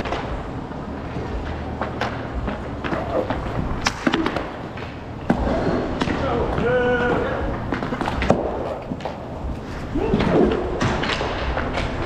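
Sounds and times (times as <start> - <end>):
skate wheels rolling on rink: 0.0 - 12.0
sticks and puck clacking: 0.0 - 12.0.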